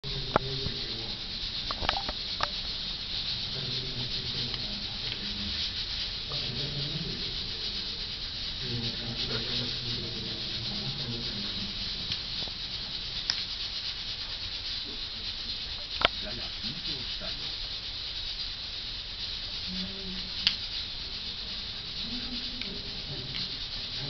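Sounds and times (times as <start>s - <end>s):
steady hiss: 0.0s - 24.0s
claw clicks: 0.1s - 24.0s
dog rubbing against fur: 0.1s - 24.0s.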